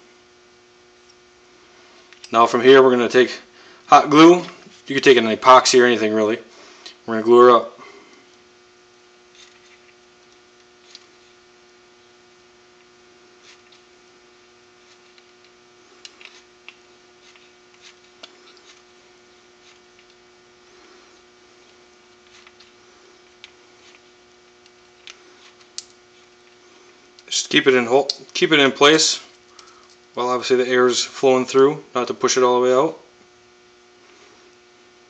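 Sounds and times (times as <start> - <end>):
faint electrical hum: 0.0 - 35.0.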